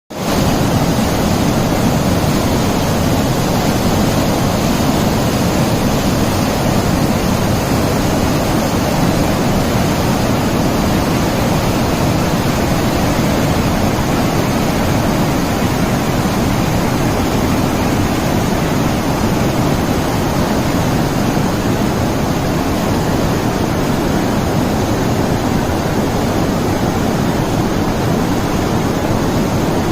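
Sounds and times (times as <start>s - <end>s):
waterfall rushing: 0.2s - 29.9s.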